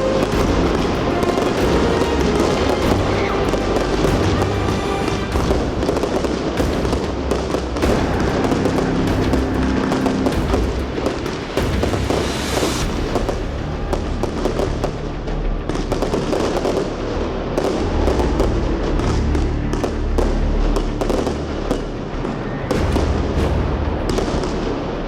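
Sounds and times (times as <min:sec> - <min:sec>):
fireworks shots and crackling: 0:00.0 - 0:25.0.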